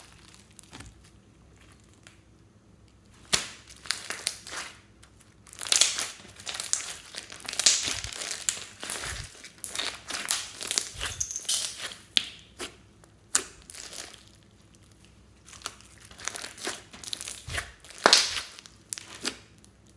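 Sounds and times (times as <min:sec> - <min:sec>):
plastic bag crinkling: 0:00.0 - 0:02.2, 0:03.0 - 0:11.9, 0:13.6 - 0:19.3
slime crackling and popping: 0:00.0 - 0:12.7, 0:13.3 - 0:19.9.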